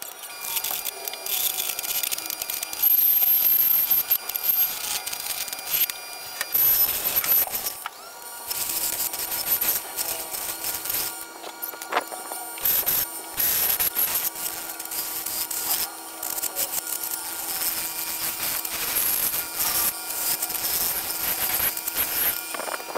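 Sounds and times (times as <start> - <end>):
tool scraping wood on a lathe: 0.0 - 7.9, 8.5 - 22.9
lathe humming: 0.0 - 22.9.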